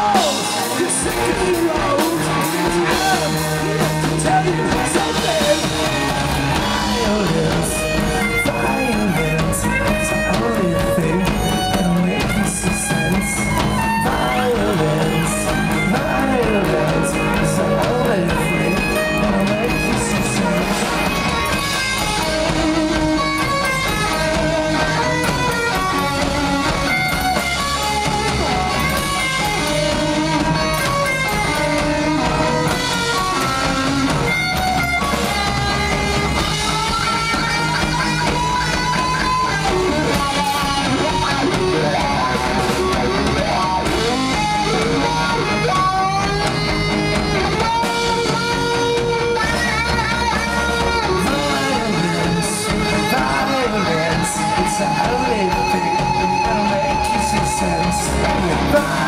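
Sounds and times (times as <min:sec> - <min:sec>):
lead guitar with bent notes: 0:00.0 - 0:59.0
rock band playing: 0:00.0 - 0:59.0.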